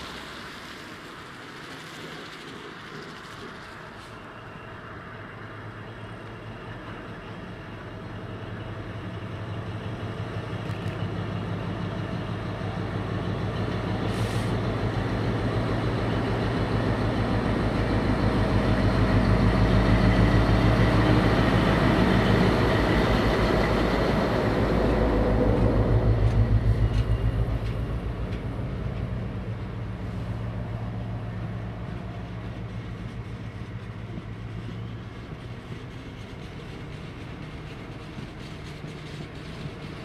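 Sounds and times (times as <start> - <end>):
diesel locomotive engine droning: 0.0 - 40.0
tank wagons rumbling past: 0.0 - 40.0.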